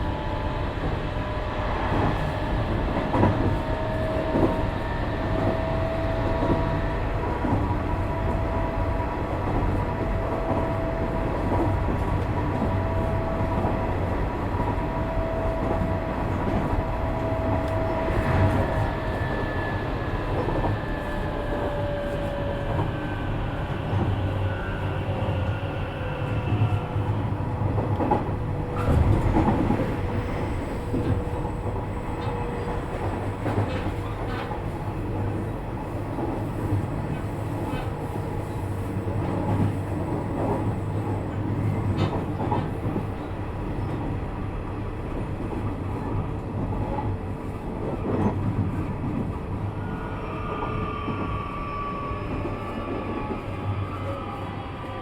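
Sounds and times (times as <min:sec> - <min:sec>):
electric train rolling rumble: 0:00.0 - 0:55.0.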